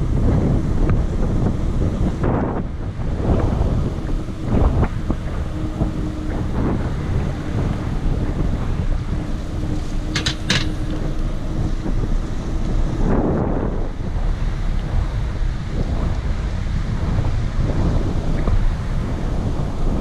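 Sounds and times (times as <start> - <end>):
faint steady hum: 0.0 - 20.0
tyres rumbling on pavement: 0.0 - 20.0
wind buffeting microphone: 0.0 - 20.0.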